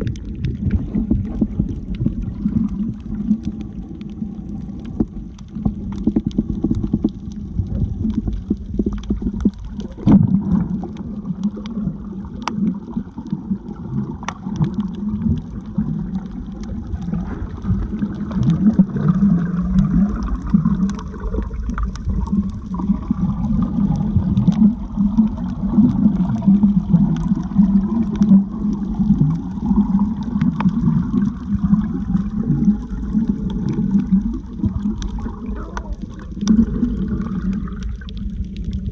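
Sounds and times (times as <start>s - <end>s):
muffled churning underwater sound: 0.0s - 38.9s.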